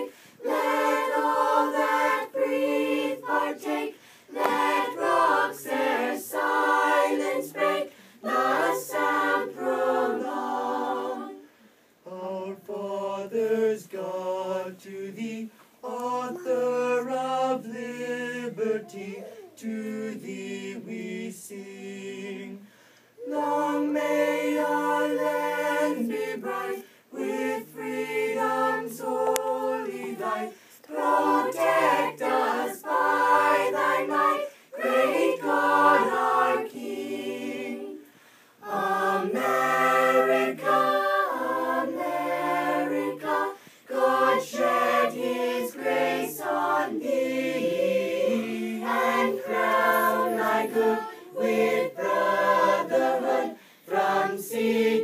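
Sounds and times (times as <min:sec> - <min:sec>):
voices singing a cappella: 0:00.0 - 0:55.0.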